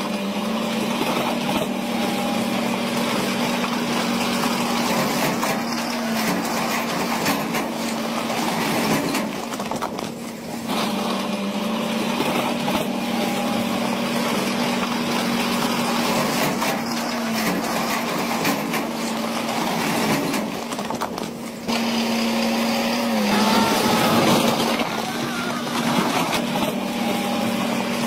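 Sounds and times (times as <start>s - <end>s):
dump truck diesel engines: 0.0s - 28.0s.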